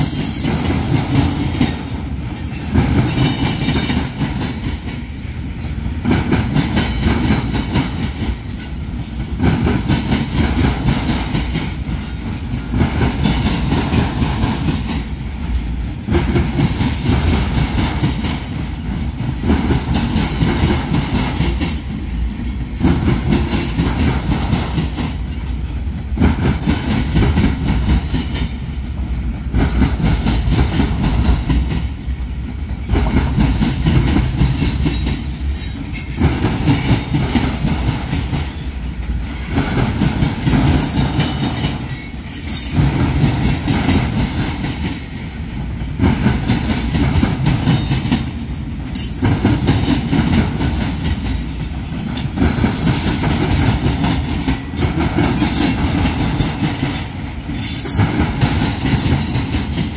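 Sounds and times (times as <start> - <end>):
freight train rumbling past: 0.0 - 59.9
wheels clacking over rails: 0.0 - 59.9.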